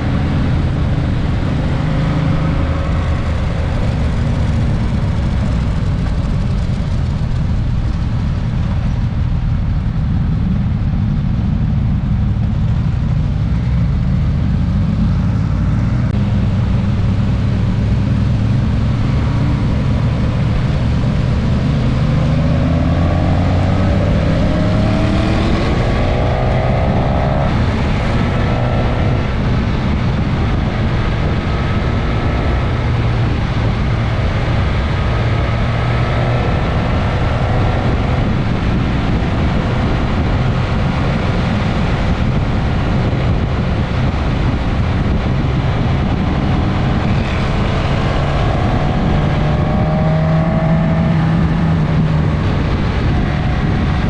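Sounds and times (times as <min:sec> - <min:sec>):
heavy wind rush: 0:00.0 - 0:54.0
motorcycle engine accelerating: 0:00.0 - 0:54.0.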